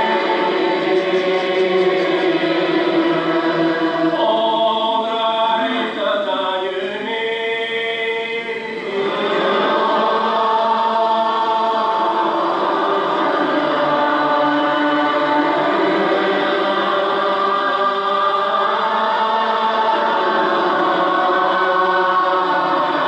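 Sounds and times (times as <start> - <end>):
congregation singing a psalm: 0.0 - 23.0.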